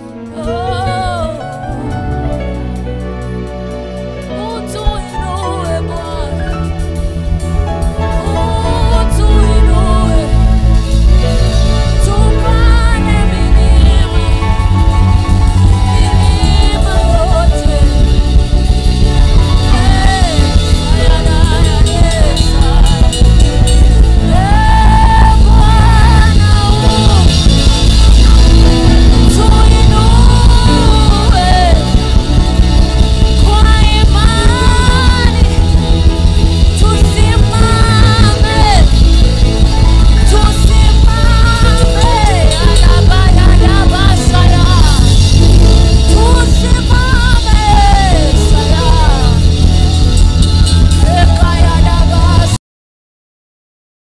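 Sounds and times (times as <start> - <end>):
choir singing gospel music: 0.0 - 52.6
electric bass guitar: 0.0 - 52.6.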